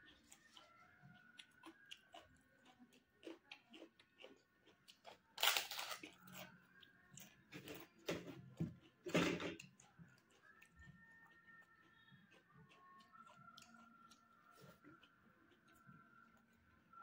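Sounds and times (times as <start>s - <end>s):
chewing clicks: 0.0s - 8.0s, 8.8s - 16.6s.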